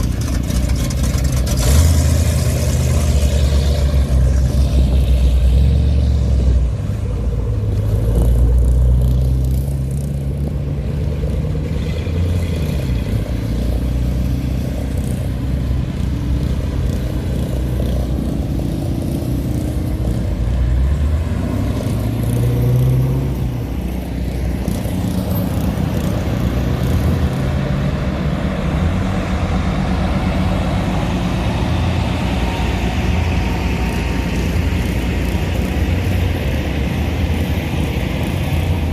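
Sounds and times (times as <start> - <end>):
cars driving past: 0.0 - 38.9.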